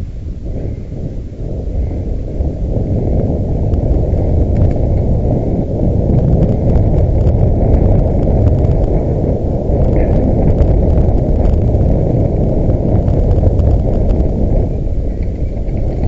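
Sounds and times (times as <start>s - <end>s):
bike rolling on sandy dirt: 0.0s - 16.0s
wind buffeting microphone: 0.0s - 16.0s.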